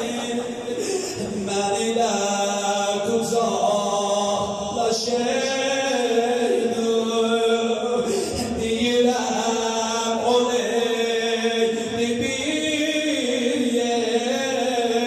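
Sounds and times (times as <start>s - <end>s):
man chanting into microphone: 0.0s - 15.0s.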